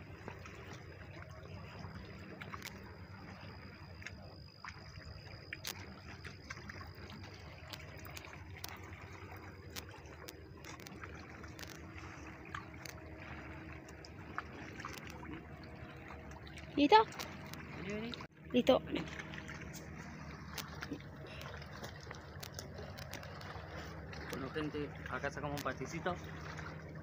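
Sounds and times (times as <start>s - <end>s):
thin high steady tone: 0.0s - 27.0s
water lapping on rocky shore: 0.0s - 27.0s.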